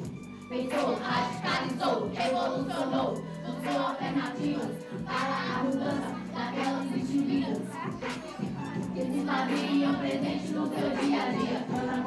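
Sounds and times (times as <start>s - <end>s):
voices singing together: 0.5s - 12.0s.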